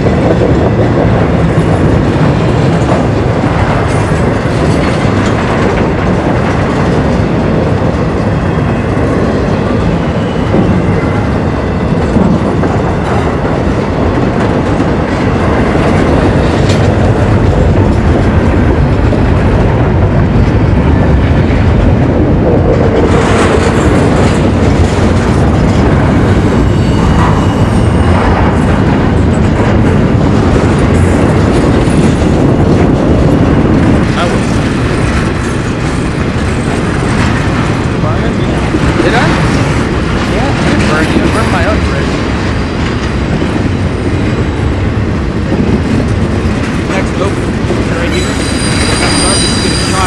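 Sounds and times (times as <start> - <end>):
train passing on rails: 0.0 - 50.0.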